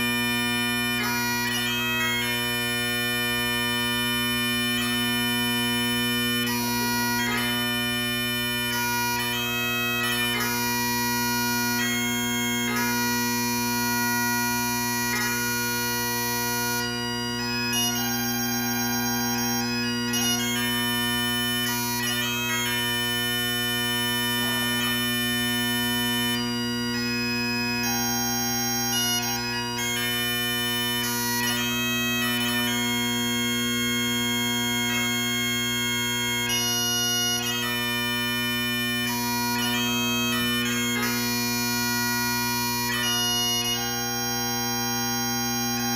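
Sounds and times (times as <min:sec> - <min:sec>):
bagpipes playing a tune: 0:00.0 - 0:45.9.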